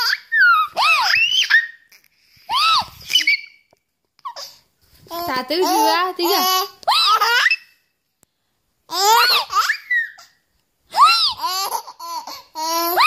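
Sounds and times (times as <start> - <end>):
baby laughing and squealing: 0.0 - 7.8, 8.9 - 13.0.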